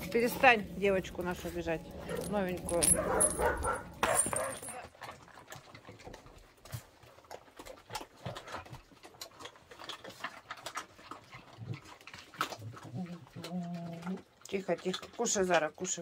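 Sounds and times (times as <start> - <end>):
dogs crunching dry kibble: 0.0 - 16.0.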